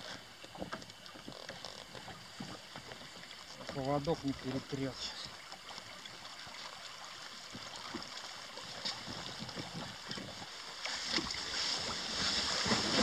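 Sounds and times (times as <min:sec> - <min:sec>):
water lapping against a boat: 0:00.0 - 0:13.0.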